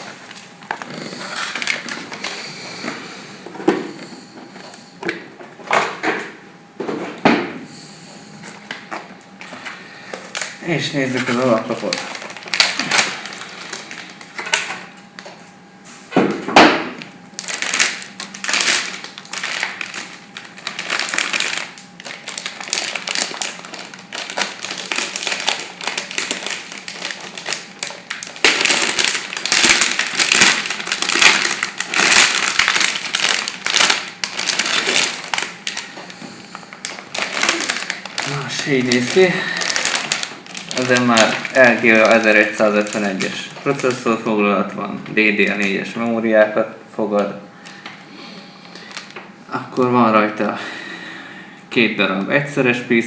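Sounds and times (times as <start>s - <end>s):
plastic and cardboard crinkling: 0.0s - 6.0s, 8.4s - 15.6s, 16.7s - 46.0s, 48.7s - 49.3s.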